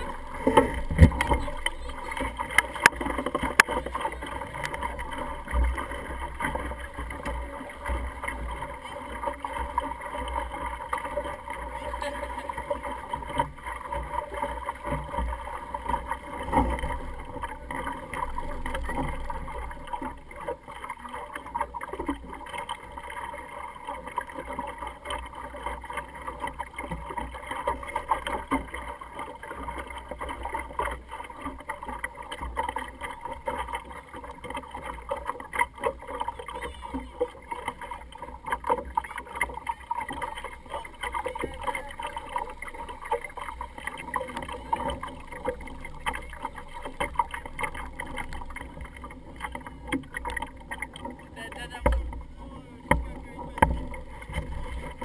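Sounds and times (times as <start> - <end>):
water lapping against hull: 0.0 - 55.0.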